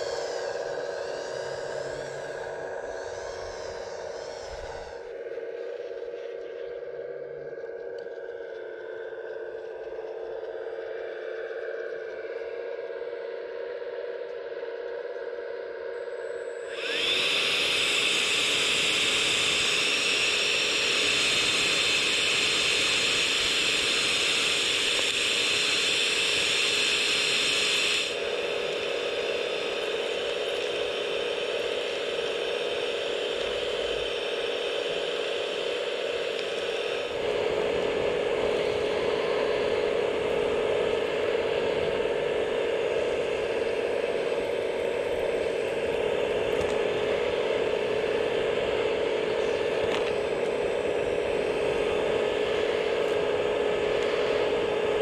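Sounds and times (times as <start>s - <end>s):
earth auger drilling: 0.0s - 10.6s, 16.6s - 55.0s.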